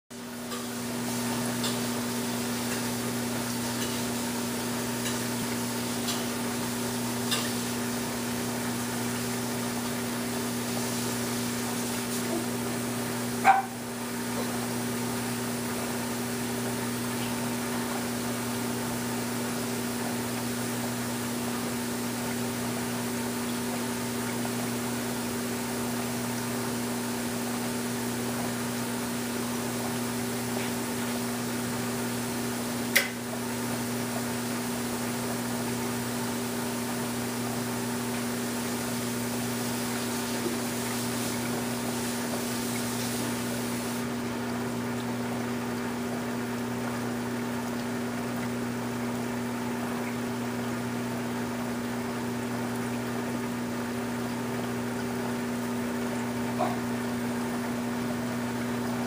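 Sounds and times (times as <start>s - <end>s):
aquarium pumps humming: 0.1s - 59.0s
circulating water: 0.1s - 59.0s.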